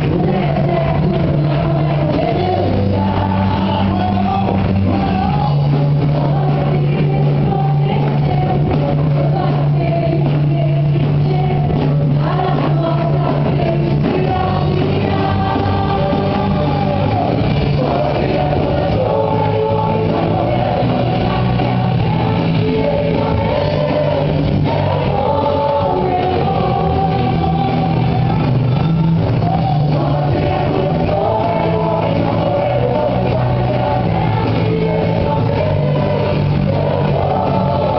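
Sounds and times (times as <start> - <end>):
band playing bass notes: 0.0 - 37.9
voices singing together: 0.0 - 37.9.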